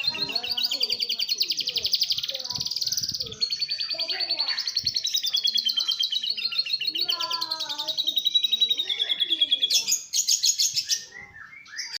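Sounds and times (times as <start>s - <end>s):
canary singing trill: 0.0s - 12.0s.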